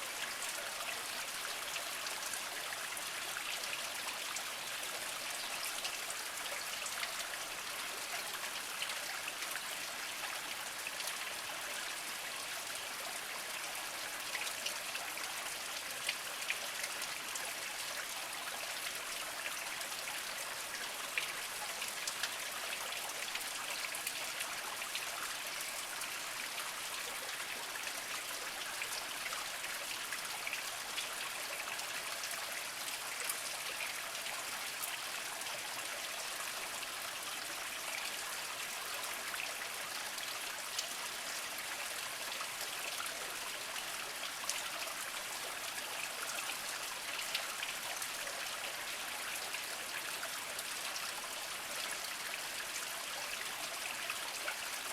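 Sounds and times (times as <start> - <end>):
water drips and splashes: 0.0 - 54.9.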